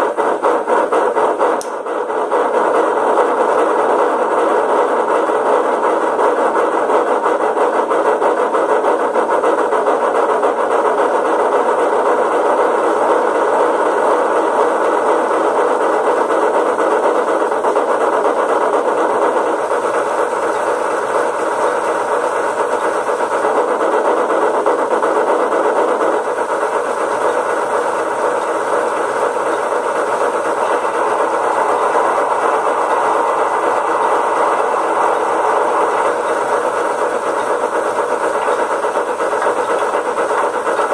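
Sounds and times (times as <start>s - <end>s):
steam locomotive sound from loudspeaker: 0.0s - 40.9s.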